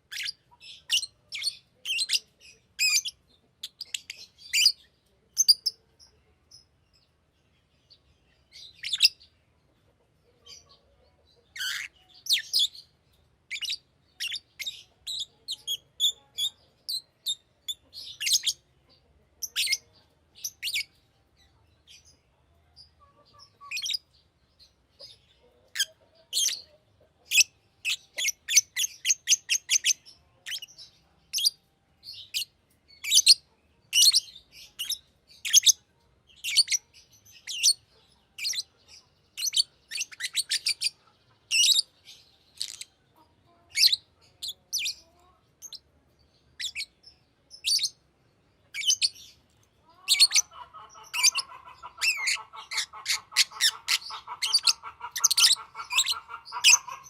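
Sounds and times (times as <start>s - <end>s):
lovebird chirping: 0.0s - 7.0s, 7.9s - 9.4s, 10.4s - 48.0s, 48.6s - 57.0s.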